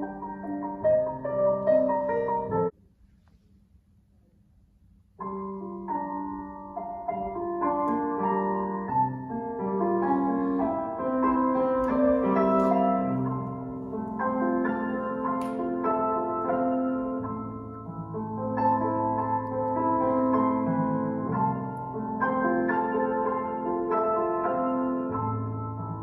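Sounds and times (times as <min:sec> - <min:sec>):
solo piano melody: 0:00.0 - 0:02.8, 0:05.2 - 0:26.0.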